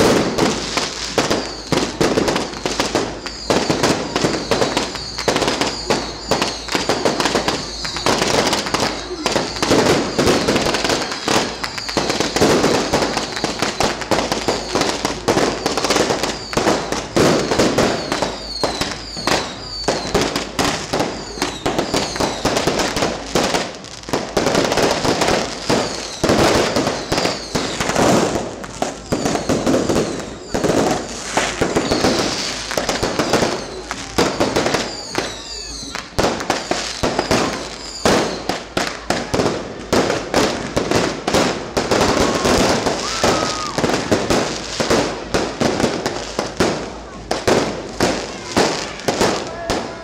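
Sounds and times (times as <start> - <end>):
firework whistles: 0.0 - 50.0
fireworks bangs and crackles: 0.0 - 50.0.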